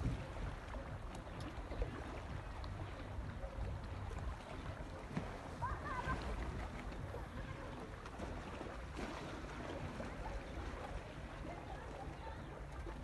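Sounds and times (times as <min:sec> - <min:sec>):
seawater lapping and sloshing: 0:00.0 - 0:13.0
wind rumble on microphone: 0:00.0 - 0:13.0.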